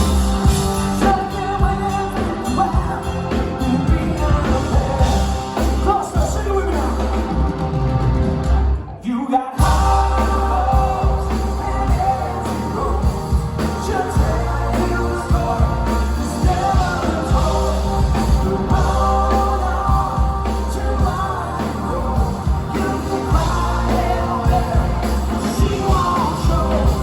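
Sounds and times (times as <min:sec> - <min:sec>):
live rock band playing: 0:00.0 - 0:09.0, 0:09.6 - 0:27.0.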